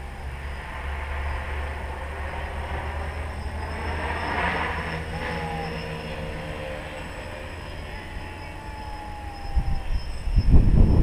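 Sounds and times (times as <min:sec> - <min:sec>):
distant drone motors humming: 0:00.0 - 0:11.0
wind buffeting microphone: 0:00.0 - 0:11.0.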